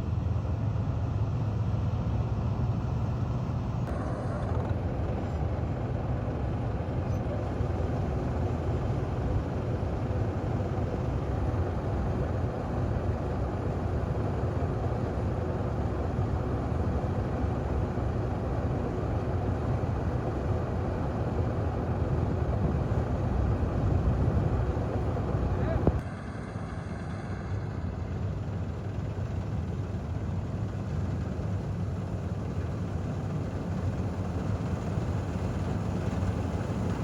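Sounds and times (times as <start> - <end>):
combine harvester engine drone: 0.0 - 37.0.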